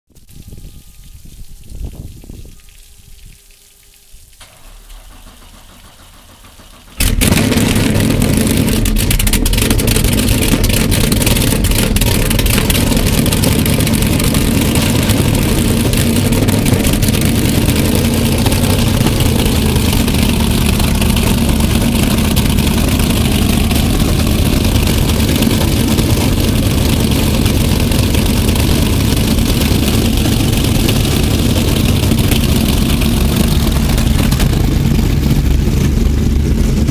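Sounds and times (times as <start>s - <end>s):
boat engine starting and idling: 4.4s - 36.9s.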